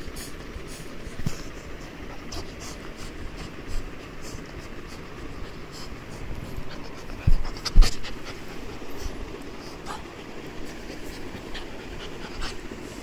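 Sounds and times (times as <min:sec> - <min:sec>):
puppy panting: 0:00.0 - 0:13.0.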